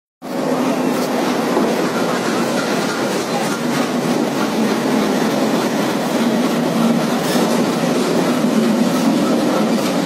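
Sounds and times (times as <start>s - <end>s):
train rumbling on rails: 0.2s - 10.0s
wheels clattering over rail joints: 0.6s - 10.0s.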